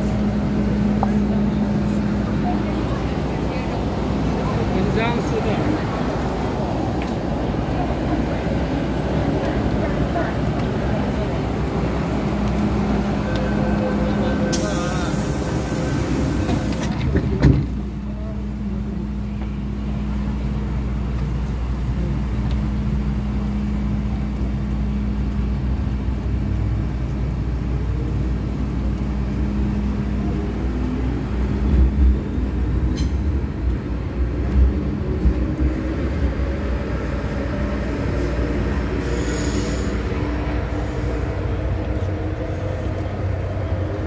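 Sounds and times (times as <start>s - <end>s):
train car interior hum: 0.0s - 44.0s.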